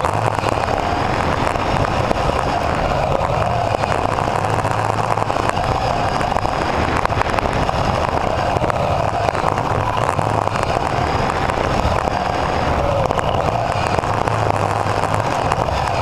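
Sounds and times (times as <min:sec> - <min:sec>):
toy car electric motor whining: 0:00.0 - 0:16.0.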